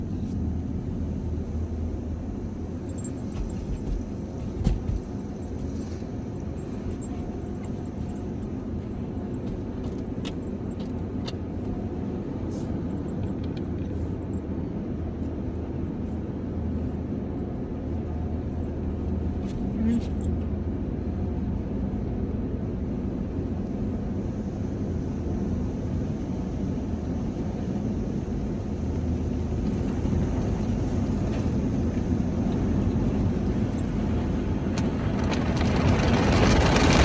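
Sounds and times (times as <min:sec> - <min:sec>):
car engine running: 0:00.0 - 0:21.7, 0:27.9 - 0:37.0.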